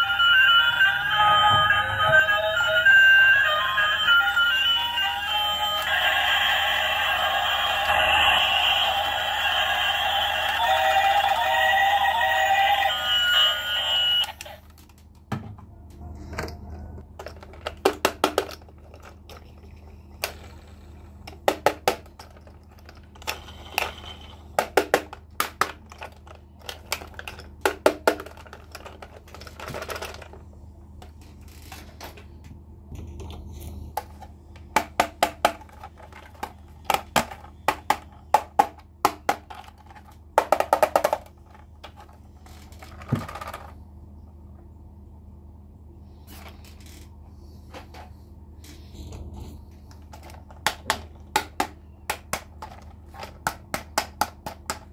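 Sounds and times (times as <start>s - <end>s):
faint low hum: 0.0s - 54.9s.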